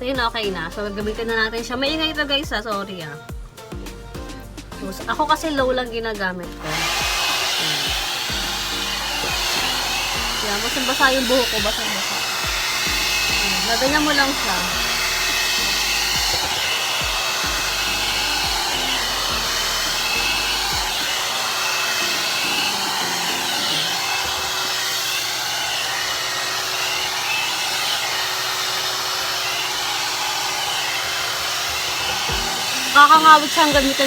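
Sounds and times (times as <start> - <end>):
hair dryer blowing air: 6.4 - 34.0.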